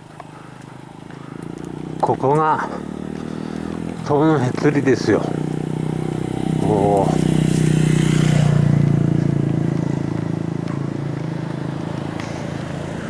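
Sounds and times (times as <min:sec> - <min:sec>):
motorcycle riding past: 0:00.0 - 0:13.0.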